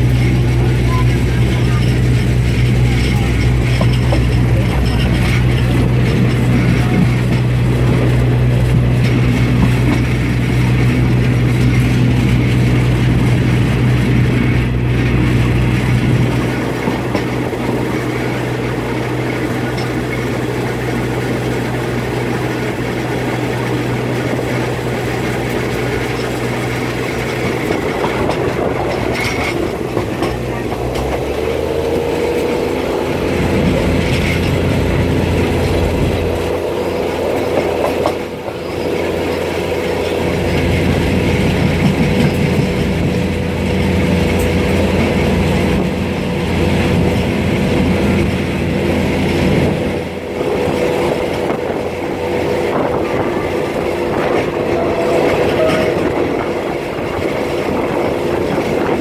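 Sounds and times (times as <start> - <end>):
diesel engine hum: 0.0 - 59.0
train wheels on rails: 0.0 - 59.0.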